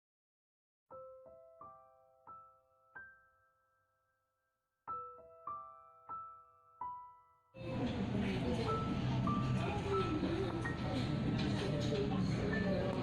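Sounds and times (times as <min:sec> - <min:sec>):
soft piano music: 0:00.9 - 0:04.2, 0:04.9 - 0:13.0.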